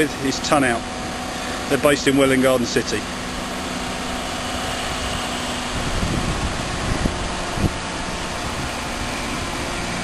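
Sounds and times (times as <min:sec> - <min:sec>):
crane engine running: 0:00.0 - 0:10.0.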